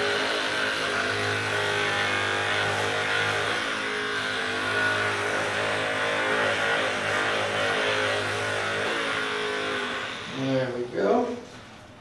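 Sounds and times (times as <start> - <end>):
massage gun motor buzzing: 0.0 - 11.3.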